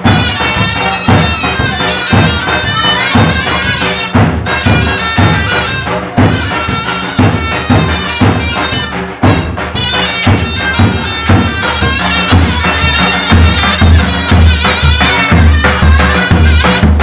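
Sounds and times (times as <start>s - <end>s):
shawm playing reedy folk melody: 0.0s - 17.0s.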